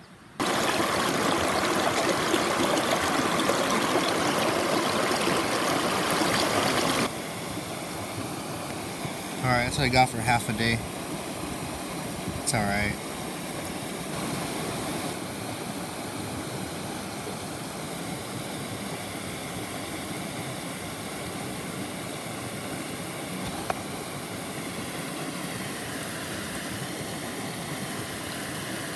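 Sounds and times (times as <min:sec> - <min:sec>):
river water flowing: 0:00.4 - 0:28.9.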